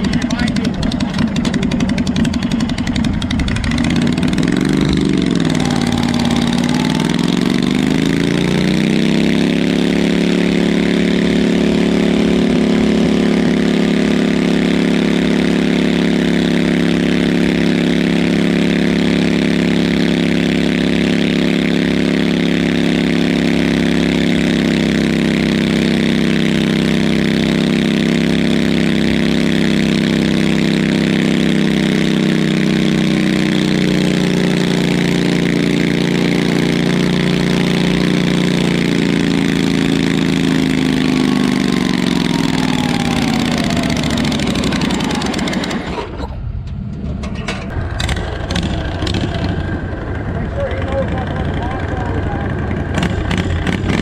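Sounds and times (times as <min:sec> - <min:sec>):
garden tractor engine revving: 0:00.0 - 0:54.0.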